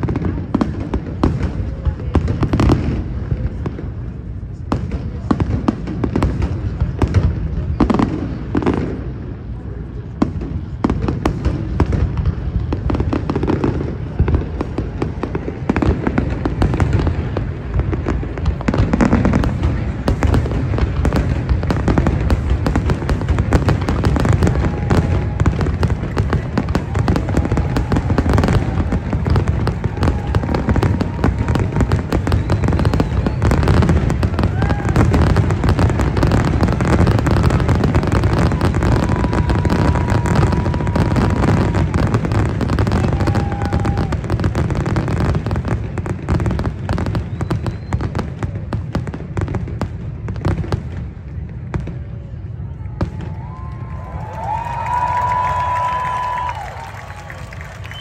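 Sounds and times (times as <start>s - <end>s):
crowd voices: 0.0s - 58.0s
fireworks bursting and crackling: 0.0s - 58.0s.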